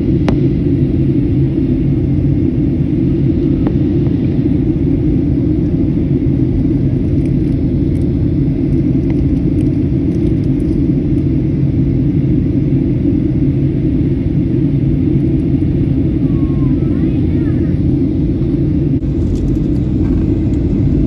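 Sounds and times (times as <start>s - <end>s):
jet airliner cabin rumble: 0.0s - 21.0s.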